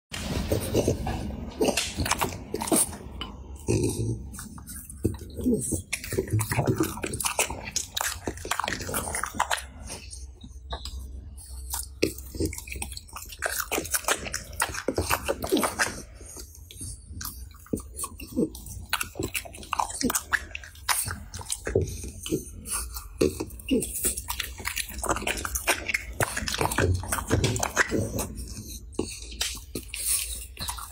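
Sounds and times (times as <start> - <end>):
dog chewing food: 0.2 - 30.9.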